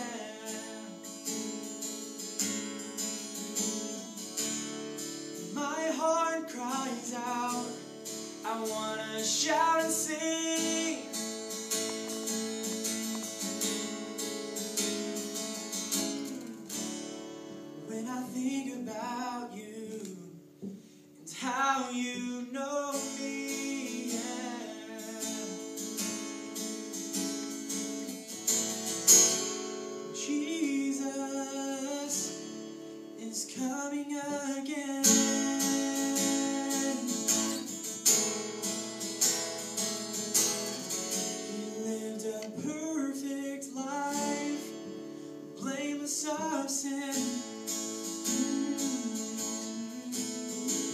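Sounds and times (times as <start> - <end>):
acoustic guitar strumming: 0.0 - 50.9.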